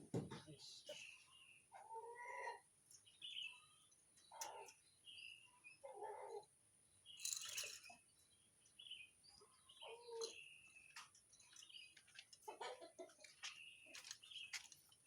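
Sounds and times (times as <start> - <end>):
faint birds chirping: 0.2 - 15.0.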